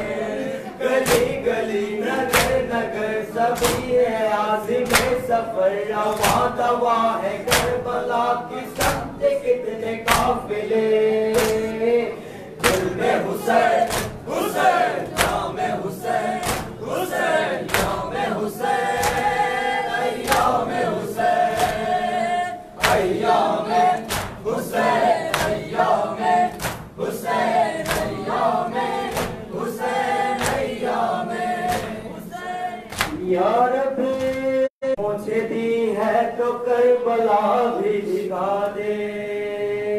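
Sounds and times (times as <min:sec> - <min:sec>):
rhythmic chest-beating: 0:00.0 - 0:34.7
men chanting in chorus: 0:00.0 - 0:39.9
person reciting into a microphone: 0:00.0 - 0:39.9.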